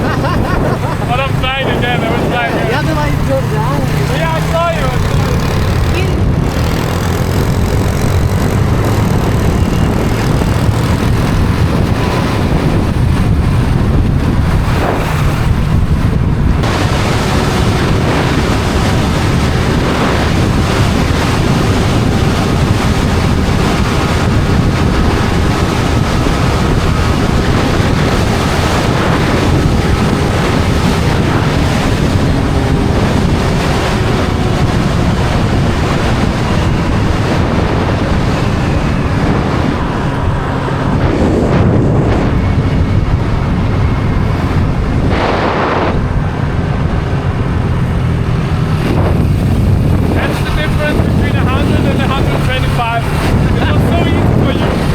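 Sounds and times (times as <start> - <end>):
faint motorbike engine hum: 0.0 - 54.9
wind rush on microphone: 0.0 - 54.9.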